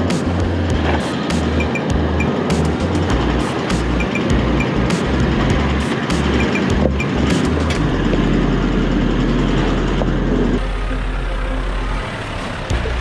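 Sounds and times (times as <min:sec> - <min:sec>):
vehicle engine and tyre noise: 0:00.0 - 0:13.0.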